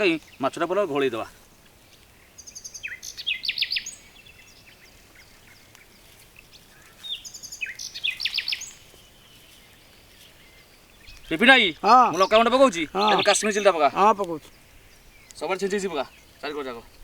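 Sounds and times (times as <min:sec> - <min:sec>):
faint outdoor background: 0:00.0 - 0:17.0
songbird singing: 0:00.0 - 0:17.0.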